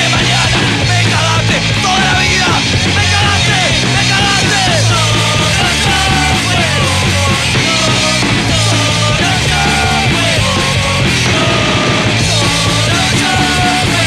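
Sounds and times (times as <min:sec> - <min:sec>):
punk rock band playing: 0:00.0 - 0:14.0.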